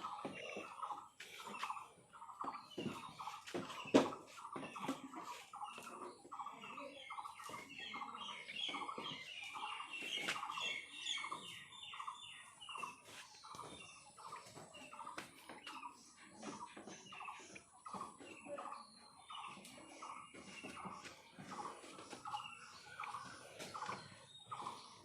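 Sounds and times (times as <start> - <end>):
farm animals calling: 0.0 - 25.0.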